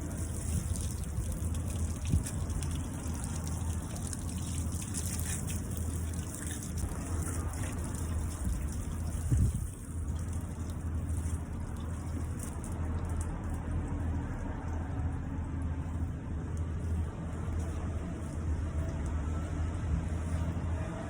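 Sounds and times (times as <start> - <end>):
water gushing from a hose: 0.0 - 21.0.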